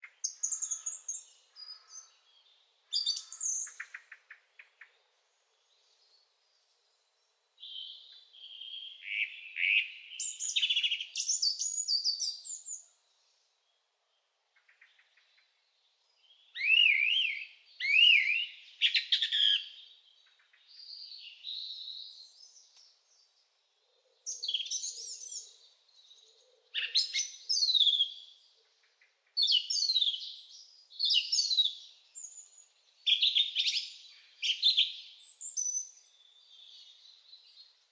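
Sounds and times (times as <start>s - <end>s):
songbirds singing: 0.0s - 37.9s.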